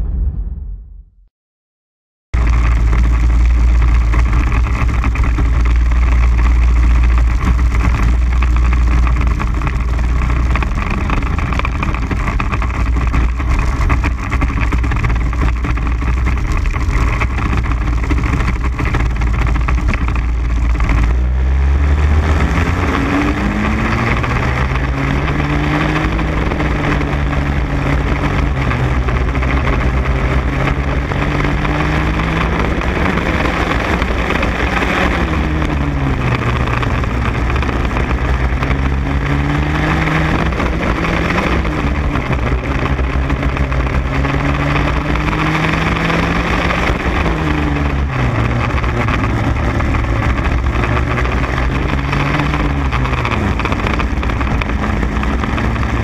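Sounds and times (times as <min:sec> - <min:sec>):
kart engine running: 0:02.4 - 0:56.0.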